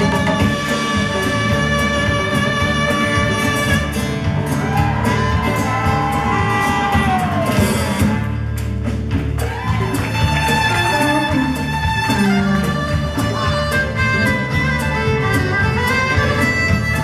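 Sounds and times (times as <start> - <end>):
blues-rock band playing: 0.0 - 17.0.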